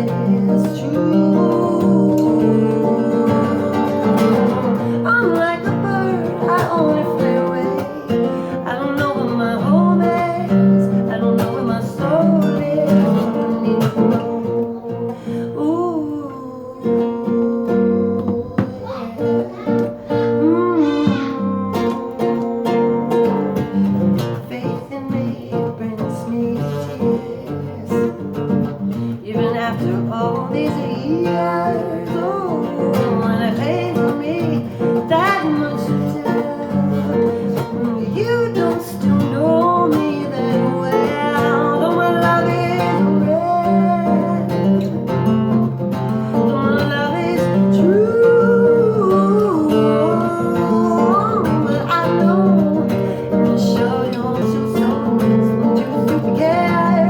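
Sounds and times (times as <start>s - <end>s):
acoustic guitar strumming: 0.0s - 57.0s
woman singing: 0.0s - 57.0s.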